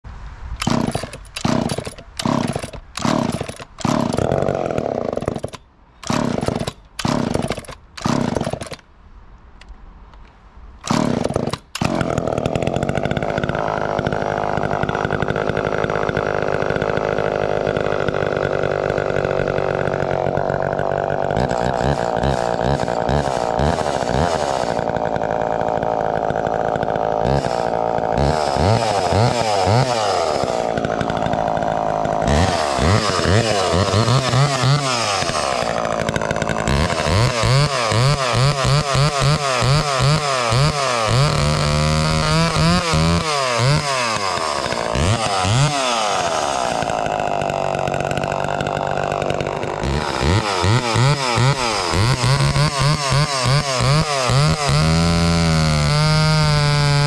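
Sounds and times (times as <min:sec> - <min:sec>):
chainsaw starting and running: 0:00.6 - 0:08.9, 0:10.8 - 0:57.0.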